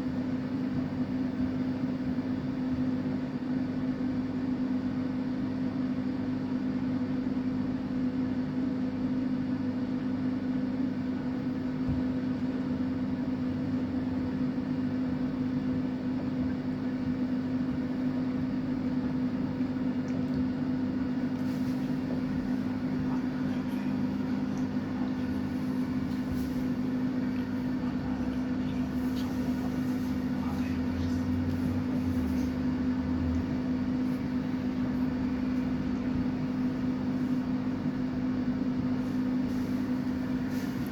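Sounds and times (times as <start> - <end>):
washing machine humming: 0.0 - 40.9.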